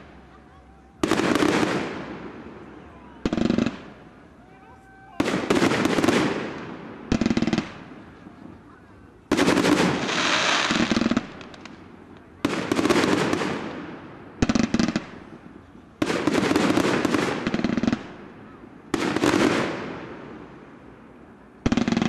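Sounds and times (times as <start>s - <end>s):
firework crackles: 0.0s - 22.0s.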